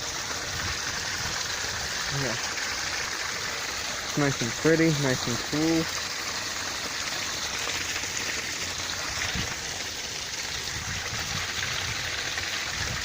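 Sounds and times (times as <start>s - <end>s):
water spilling into creek: 0.0s - 13.0s.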